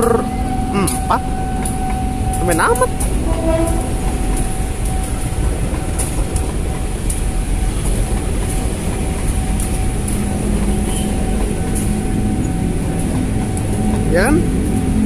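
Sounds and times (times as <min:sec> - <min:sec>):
train wheels rumbling on rails: 0:00.0 - 0:15.0
wheel clacks: 0:00.9 - 0:15.0.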